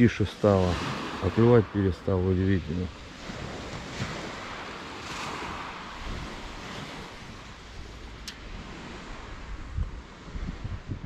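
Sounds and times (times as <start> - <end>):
small waves washing in: 0.0 - 11.0
wind rumble on microphone: 0.0 - 11.0.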